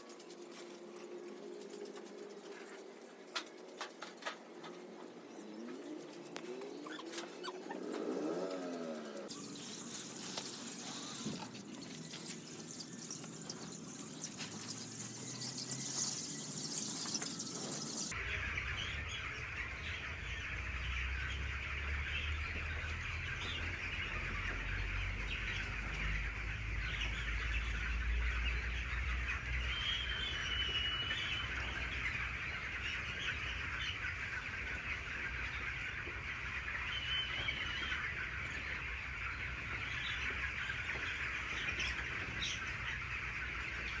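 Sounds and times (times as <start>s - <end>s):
chicks peeping in chorus: 0.0s - 44.0s.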